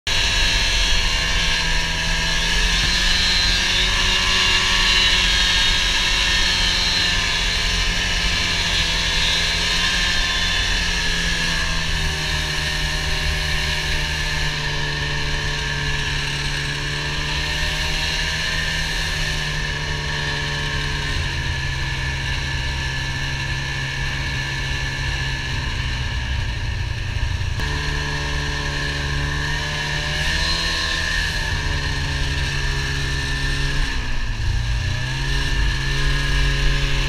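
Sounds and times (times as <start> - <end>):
snowmobile engine running: 0.1 - 37.0.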